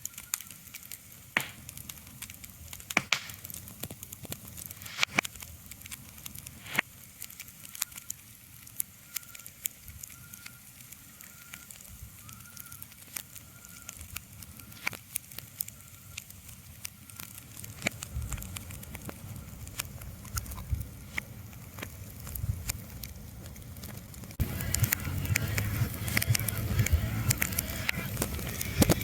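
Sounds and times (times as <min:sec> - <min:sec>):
crackling and sharp pops: 0:00.0 - 0:29.0.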